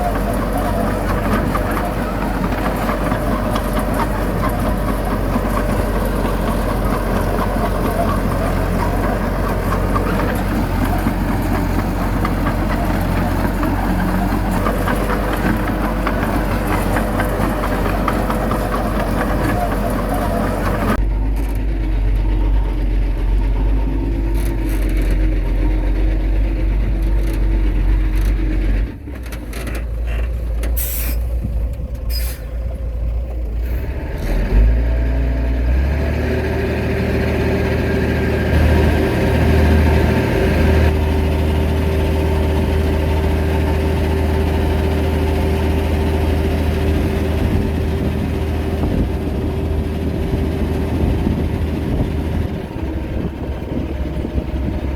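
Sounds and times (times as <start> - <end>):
heavy diesel machinery running: 0.0 - 54.9.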